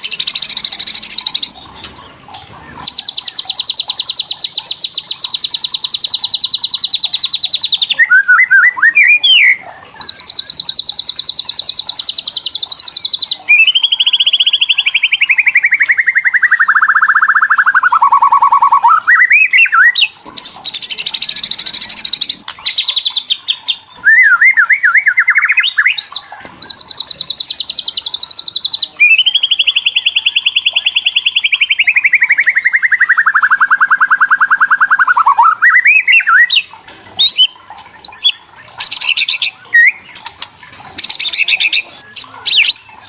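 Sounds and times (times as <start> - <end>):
bird rapid trilling rattle: 0.0 - 43.0.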